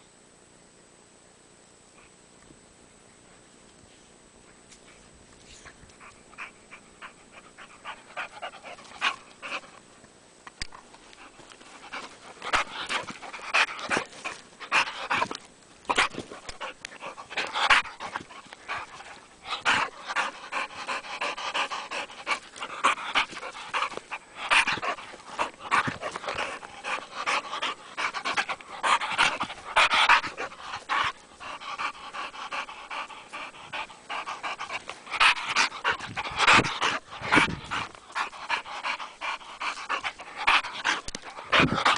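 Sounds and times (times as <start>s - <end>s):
dog panting: 4.9s - 9.8s, 10.9s - 41.9s.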